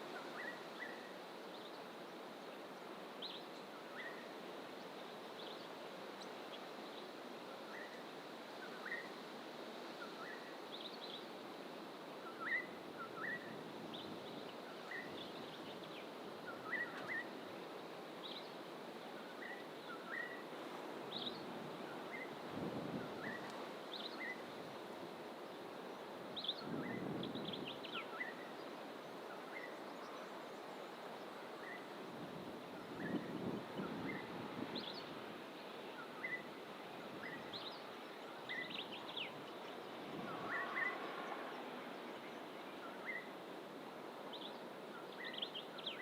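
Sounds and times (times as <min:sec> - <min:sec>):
low background hiss: 0:00.0 - 0:46.0.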